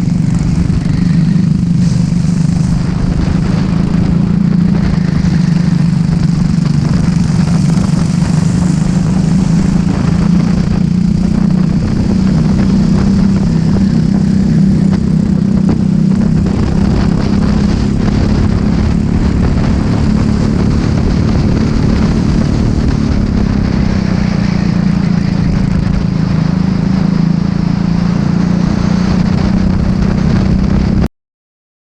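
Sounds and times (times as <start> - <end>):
kart engine running high: 0.0 - 31.0
wind noise: 0.0 - 31.1.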